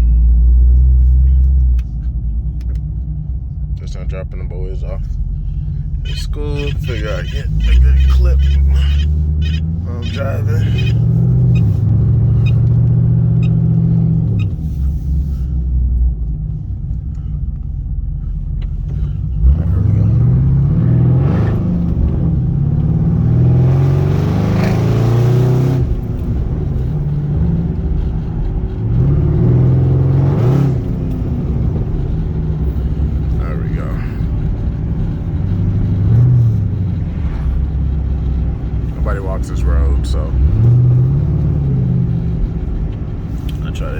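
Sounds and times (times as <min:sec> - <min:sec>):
car engine revving: 0:03.8 - 0:17.0, 0:18.2 - 0:43.9.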